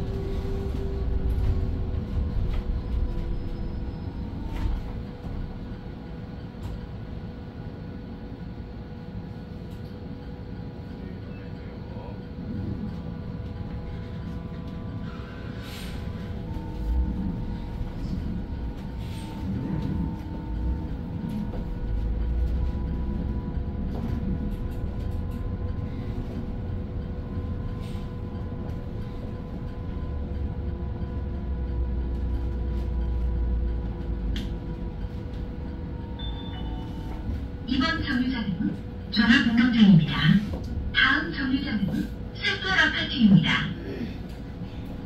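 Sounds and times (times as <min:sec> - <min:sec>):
constant whine: 0:00.0 - 0:45.0.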